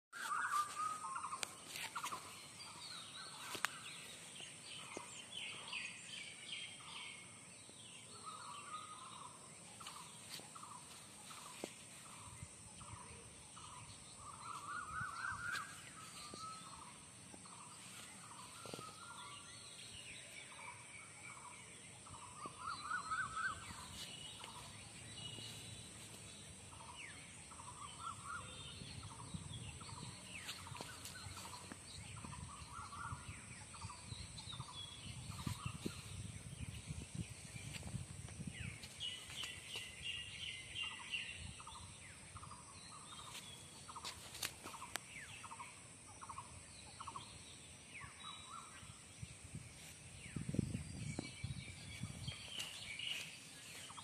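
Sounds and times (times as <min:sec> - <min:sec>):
birds chirping softly: 0:00.1 - 0:54.0.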